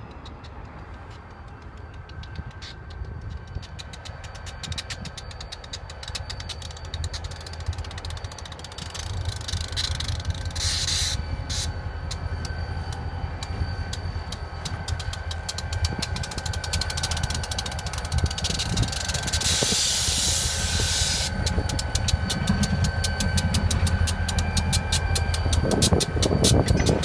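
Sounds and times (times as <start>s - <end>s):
diesel locomotive idling: 0.0s - 27.0s.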